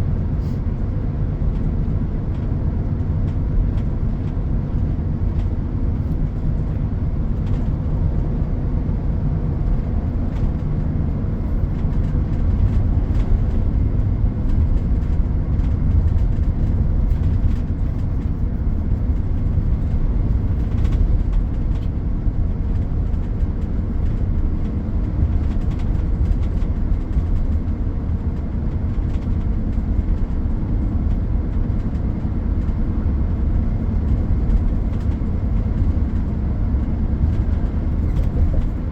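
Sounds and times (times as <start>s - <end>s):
heavy machinery engine rumble: 0.0s - 38.9s.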